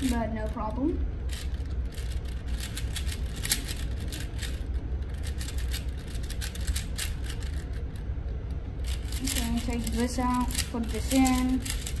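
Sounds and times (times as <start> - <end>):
steady low hum: 0.0 - 12.0
puzzle cube plastic clicks: 1.3 - 7.8, 8.8 - 12.0.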